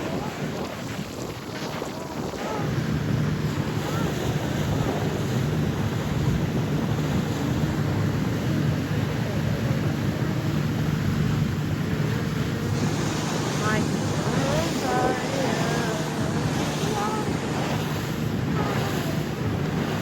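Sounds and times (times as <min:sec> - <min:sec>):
boat engine drone: 0:00.0 - 0:20.0
wind buffeting microphone: 0:00.0 - 0:20.0.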